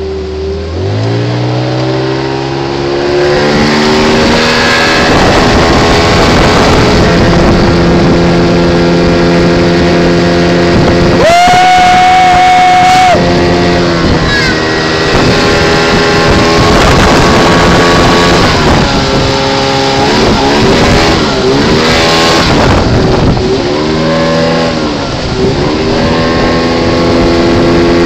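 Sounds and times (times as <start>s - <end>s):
outboard motor revving: 0.0s - 28.0s
water rushing past hull: 0.0s - 28.0s.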